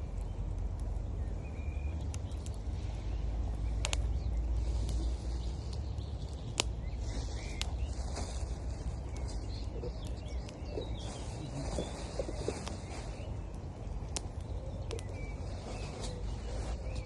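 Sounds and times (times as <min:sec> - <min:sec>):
birds chirping: 0:00.0 - 0:17.0
campfire crackling and popping: 0:00.0 - 0:17.0.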